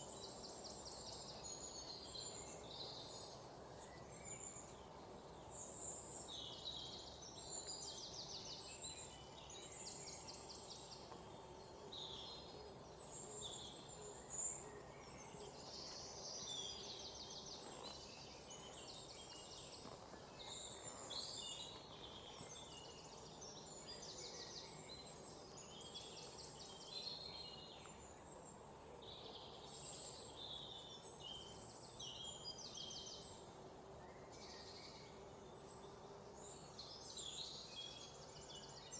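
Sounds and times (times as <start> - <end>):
low background noise: 0.0 - 38.9
songbirds chirping: 0.0 - 38.9.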